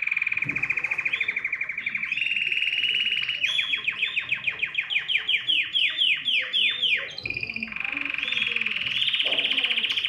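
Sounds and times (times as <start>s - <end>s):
canary singing: 0.0s - 10.0s.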